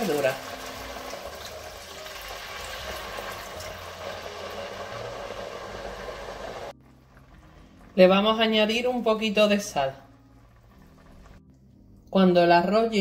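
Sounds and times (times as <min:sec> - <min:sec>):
liquid pouring and bubbling in pan: 0:00.0 - 0:08.4, 0:09.6 - 0:12.0.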